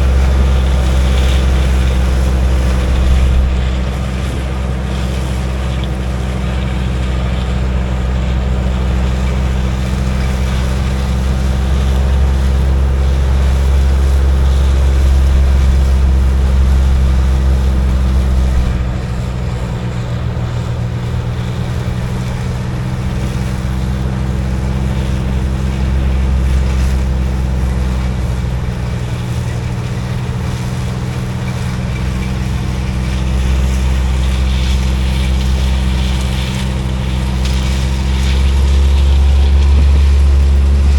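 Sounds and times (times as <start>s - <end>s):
combine harvester engine drone: 0.0s - 40.9s.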